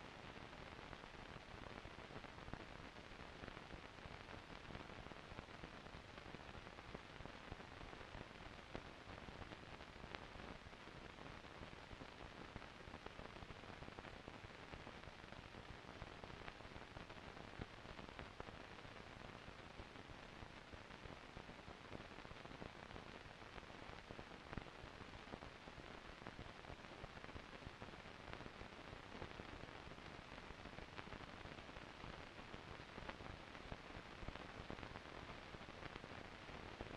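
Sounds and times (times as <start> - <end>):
film soundtrack hiss and crackle: 0.0 - 36.9.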